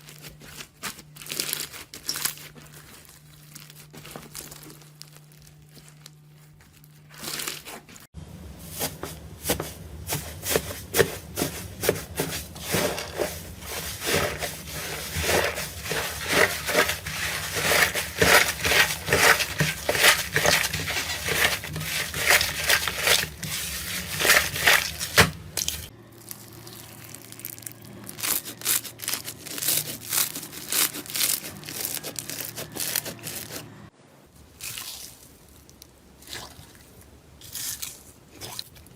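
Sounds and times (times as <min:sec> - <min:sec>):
crunchy slime crackling: 0:00.0 - 0:08.1, 0:08.7 - 0:33.7, 0:34.5 - 0:38.9.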